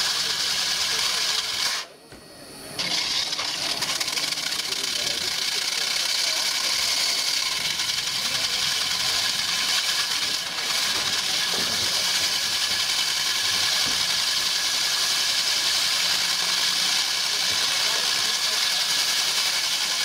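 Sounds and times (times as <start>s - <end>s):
core drill grinding into concrete: 0.0s - 1.9s, 2.6s - 20.0s
hydraulic power pack engine running: 0.0s - 20.0s.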